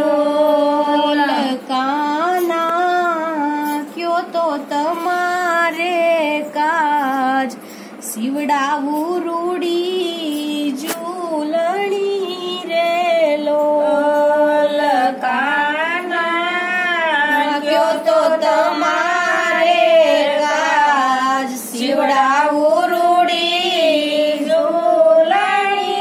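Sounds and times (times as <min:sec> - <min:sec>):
woman singing unaccompanied: 0:00.0 - 0:26.0.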